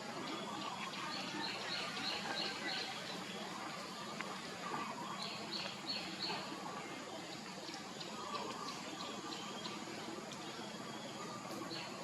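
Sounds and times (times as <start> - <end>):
outdoor murmur: 0.0 - 12.0.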